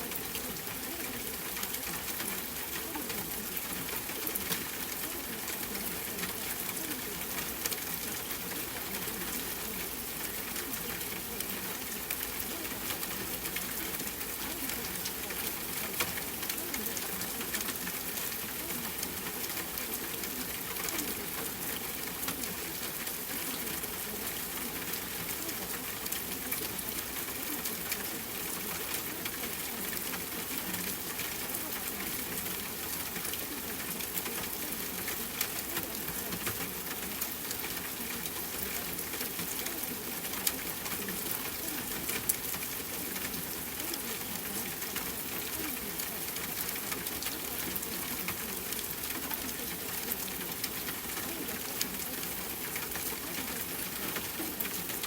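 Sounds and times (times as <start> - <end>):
water hiss with crackling ticks: 0.0 - 55.0.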